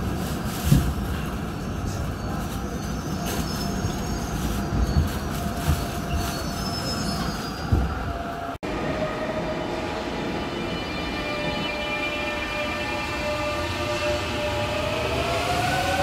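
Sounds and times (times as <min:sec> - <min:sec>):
metro train rumble with knocks: 0:00.0 - 0:16.0.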